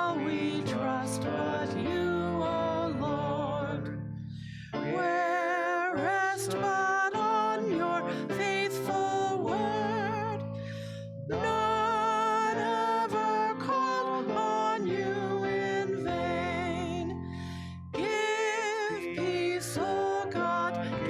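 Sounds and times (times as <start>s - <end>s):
hymn singing with vibrato: 0.0s - 4.0s, 4.8s - 10.5s, 11.3s - 21.0s.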